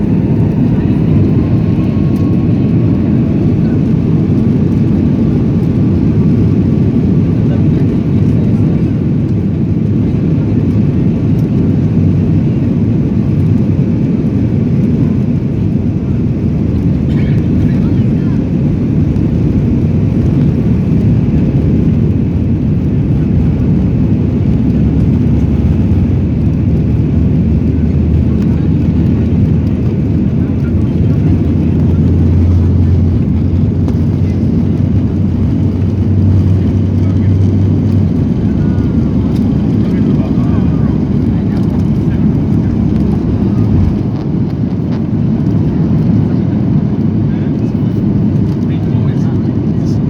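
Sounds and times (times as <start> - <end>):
airliner engines rumbling: 0.0 - 50.0.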